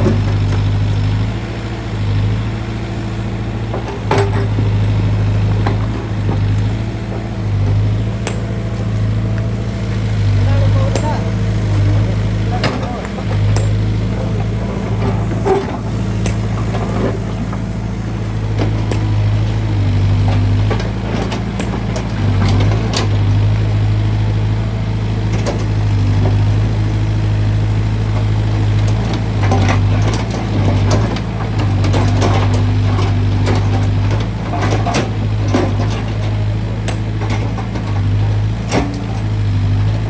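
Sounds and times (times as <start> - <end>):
digging clanks and knocks: 0.0 - 26.5, 27.2 - 40.0
backhoe diesel engine running: 0.0 - 40.0.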